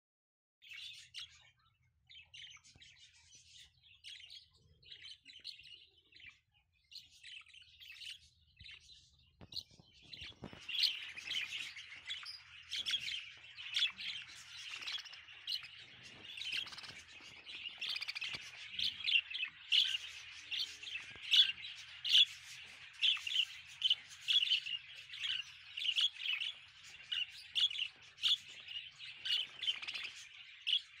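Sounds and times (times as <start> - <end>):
budgerigars chirping: 0.6 - 31.0.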